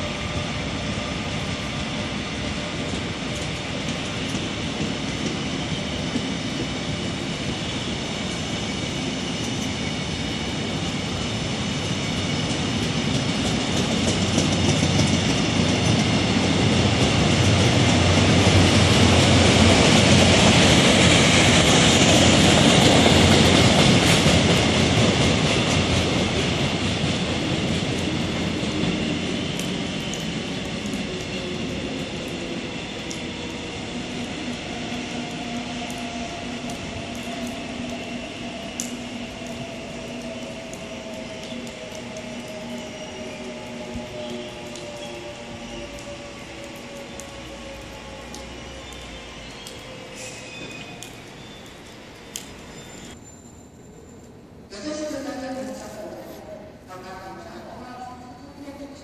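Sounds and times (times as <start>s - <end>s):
train wheels rumbling and clattering: 0.0s - 53.2s.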